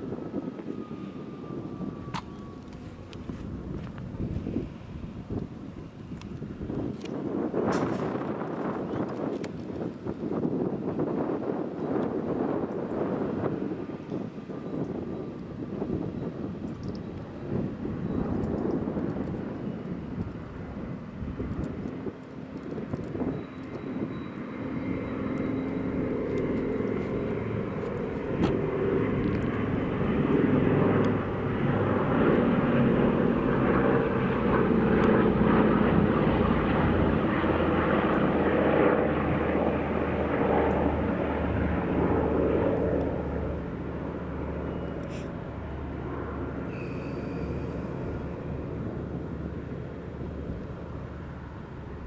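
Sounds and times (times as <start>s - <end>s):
piston engine aircraft droning: 0.0s - 52.0s.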